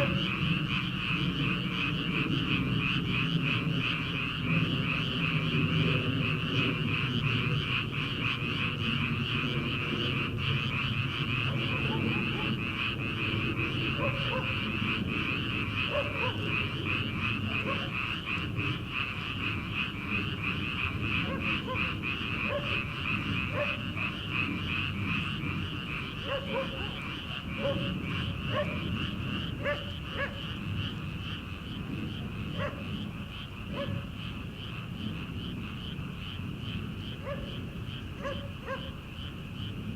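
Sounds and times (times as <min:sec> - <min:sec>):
frogs pulsing trill: 0:00.0 - 0:39.9
lower frog croaking: 0:00.0 - 0:39.9
short frog calls: 0:00.0 - 0:39.9.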